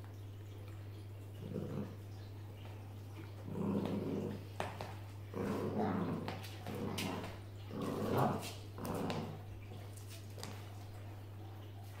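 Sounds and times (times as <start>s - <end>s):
dogs growling in play: 1.2s - 11.0s.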